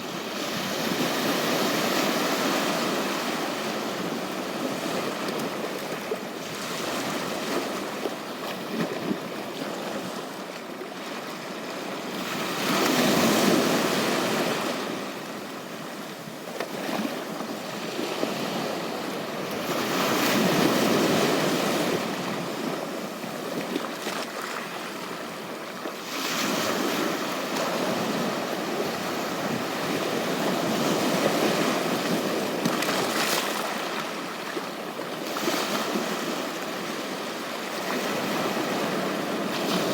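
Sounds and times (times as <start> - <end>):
sea surf on a beach: 0.0 - 39.9.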